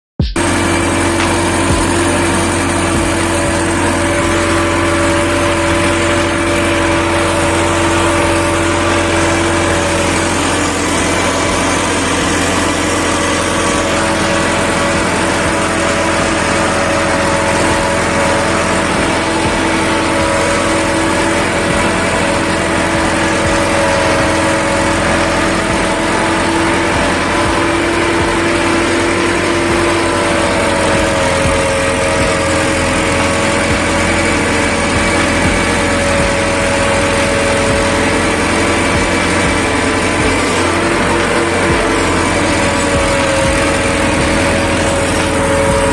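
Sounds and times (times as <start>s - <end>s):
tractor diesel engine running: 0.2s - 45.9s.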